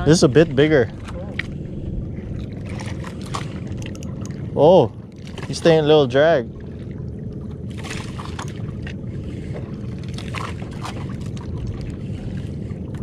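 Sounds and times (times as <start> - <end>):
steady low rumble: 0.0 - 13.0
water lapping against boat hull: 0.0 - 13.0.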